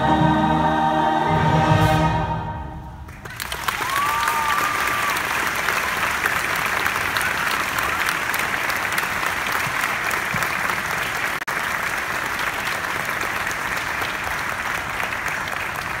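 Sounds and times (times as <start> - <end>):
large crowd applauding: 3.0 - 16.0.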